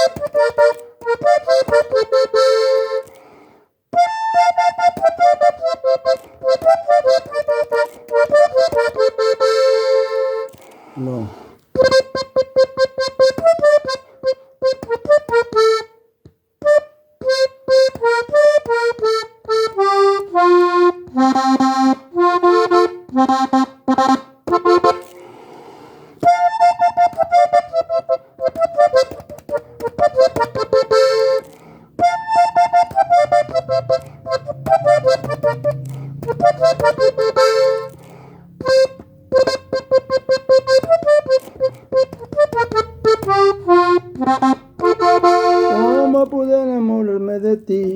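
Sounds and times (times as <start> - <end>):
low accordion bass notes: 0.0 - 3.2, 3.9 - 47.4
button accordion melody: 0.0 - 47.4.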